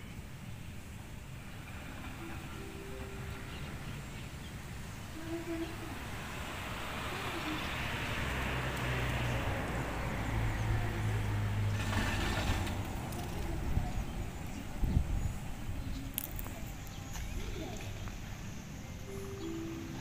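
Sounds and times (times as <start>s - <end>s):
road noise: 0.0s - 20.0s
vehicle engine hum: 0.0s - 20.0s.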